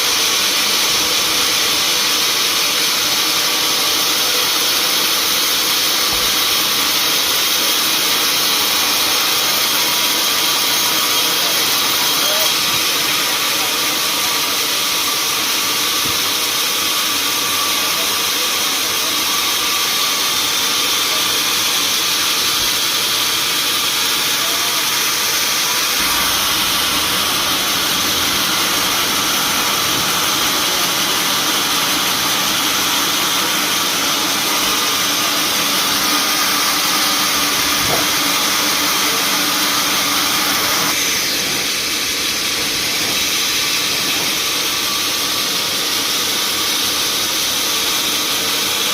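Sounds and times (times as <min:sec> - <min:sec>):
sawmill machinery hissing: 0:00.0 - 0:48.9.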